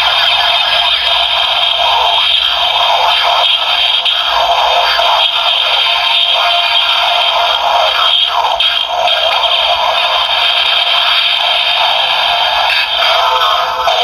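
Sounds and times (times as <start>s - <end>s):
electronic toy music and effects: 0.0s - 14.0s.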